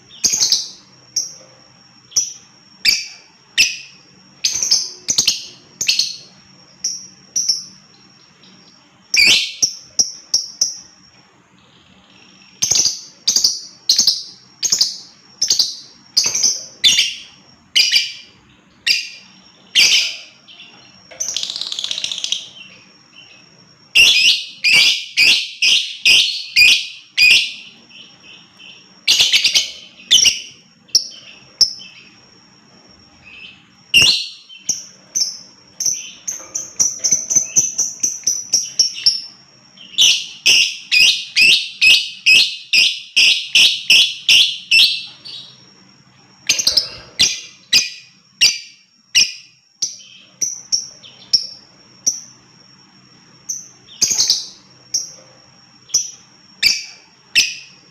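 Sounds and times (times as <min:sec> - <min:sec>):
bird chattering in shrill chirps: 0:00.0 - 0:55.2.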